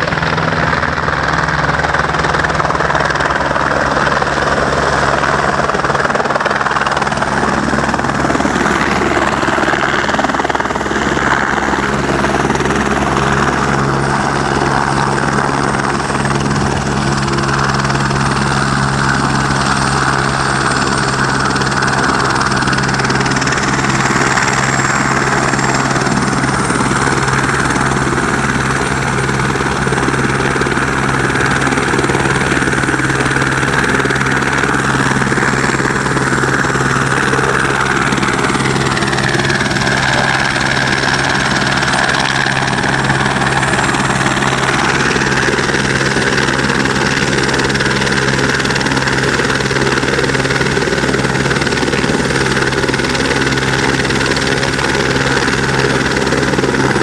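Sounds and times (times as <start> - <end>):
helicopter turbine whine: 0.0 - 57.0
low drone of rotor: 0.0 - 57.0.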